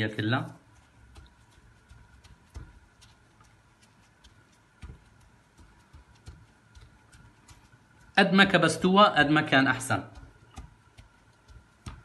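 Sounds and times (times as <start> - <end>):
pastry dough crackling: 0.0 - 12.0.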